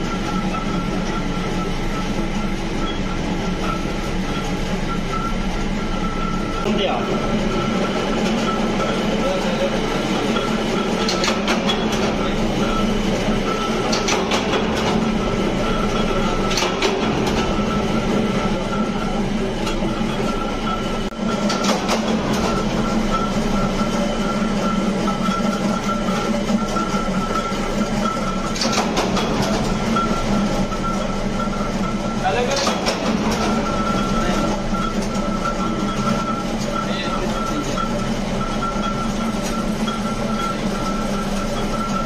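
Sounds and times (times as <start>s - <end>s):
workshop machinery droning: 0.0s - 42.0s.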